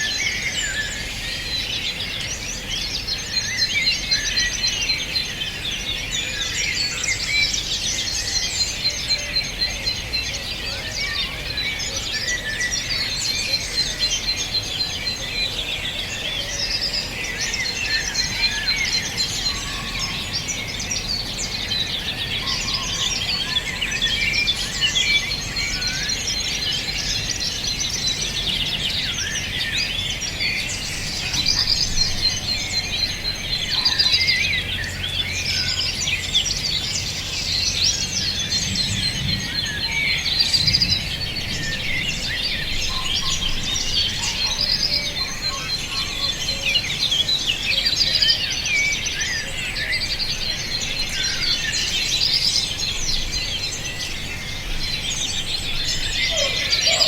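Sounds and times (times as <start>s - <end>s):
chorus of birds chirping: 0.0s - 57.0s.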